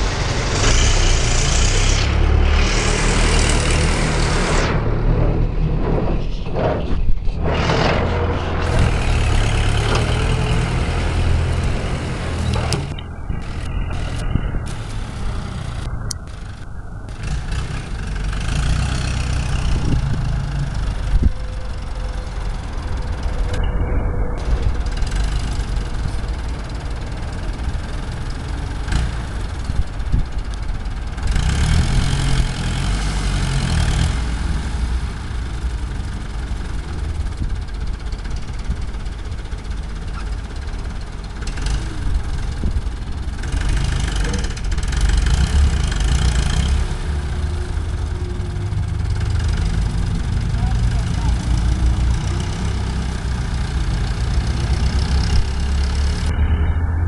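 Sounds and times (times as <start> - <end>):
tractor engine rumbling: 0.0 - 57.0.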